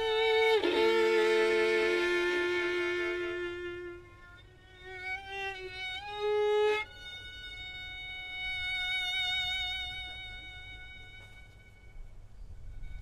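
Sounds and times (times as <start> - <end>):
solo violin notes with vibrato: 0.0 - 13.0.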